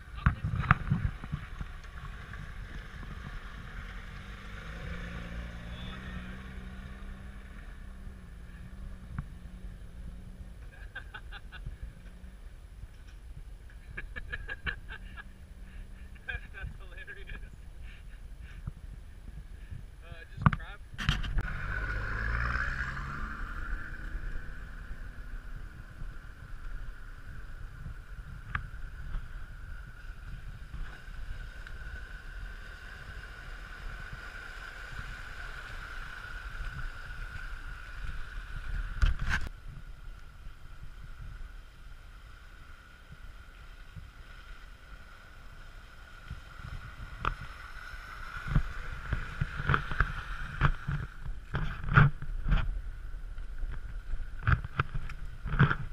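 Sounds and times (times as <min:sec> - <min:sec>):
wind on microphone: 0:00.0 - 0:32.6, 0:36.4 - 0:42.1, 0:46.2 - 0:55.9
vehicle engines running slowly: 0:00.0 - 0:55.9.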